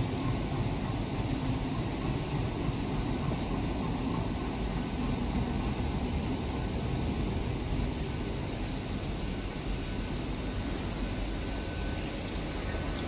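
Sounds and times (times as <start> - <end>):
train rumbling along track: 0.0 - 13.0.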